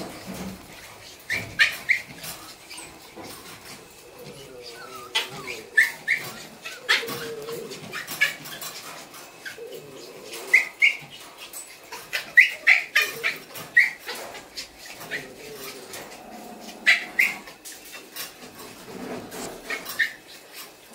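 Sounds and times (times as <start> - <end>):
puppies yipping and squeaking: 0.0 - 20.9.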